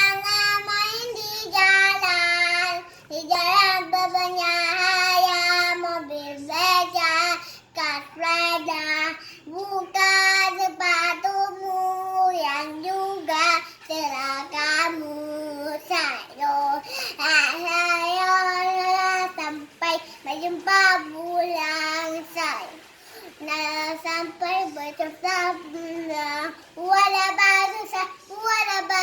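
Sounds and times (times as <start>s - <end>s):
child singing unaccompanied: 0.0s - 29.0s.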